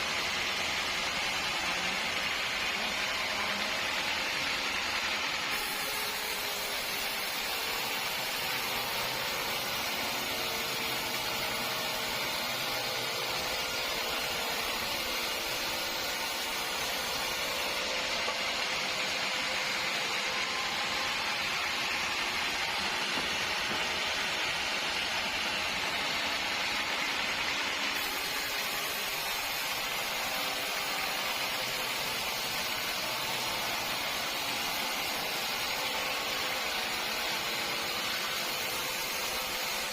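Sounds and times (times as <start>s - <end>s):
sawmill machinery hiss: 0.0s - 39.9s.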